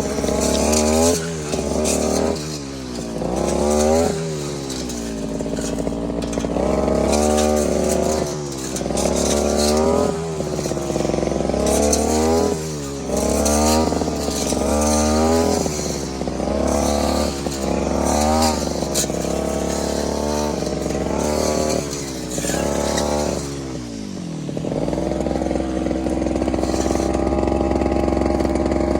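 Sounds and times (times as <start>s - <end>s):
brush cutter engine revving: 0.0s - 28.9s.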